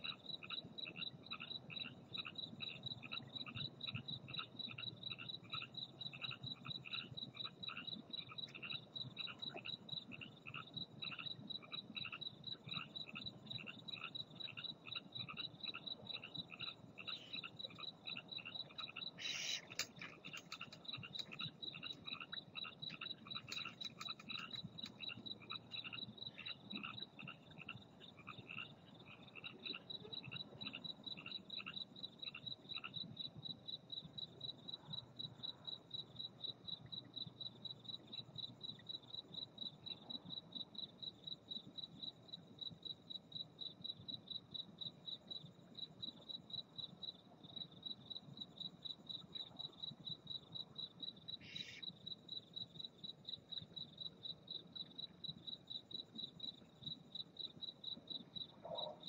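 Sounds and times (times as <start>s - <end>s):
cricket chirping: 0.0s - 59.0s
frogs croaking: 0.0s - 59.0s.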